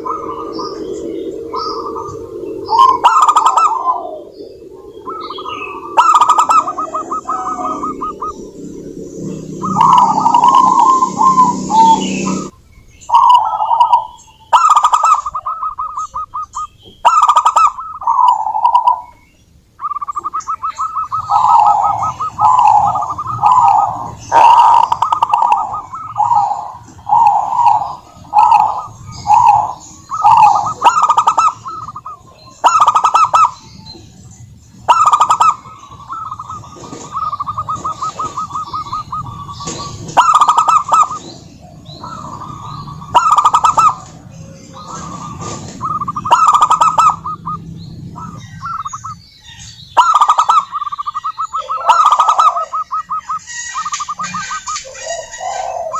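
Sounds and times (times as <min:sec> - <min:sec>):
doves cooing: 0:00.0 - 0:19.2, 0:19.8 - 0:55.9.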